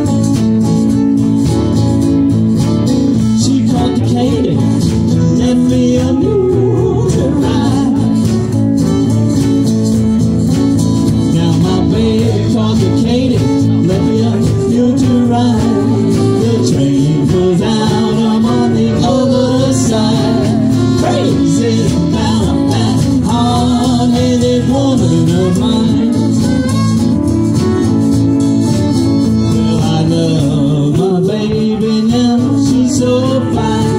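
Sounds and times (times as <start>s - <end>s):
acoustic guitars: 0.0s - 33.9s
upright bass: 0.0s - 33.9s.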